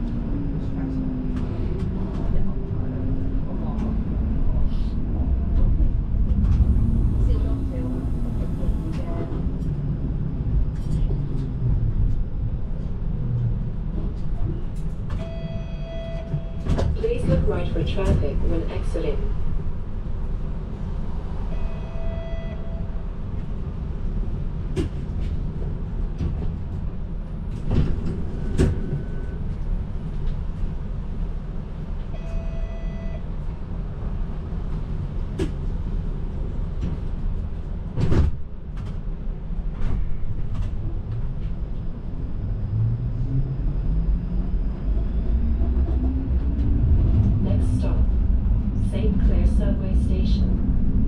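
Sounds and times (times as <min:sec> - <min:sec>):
streetcar rumbling on rails: 0:00.0 - 0:51.0.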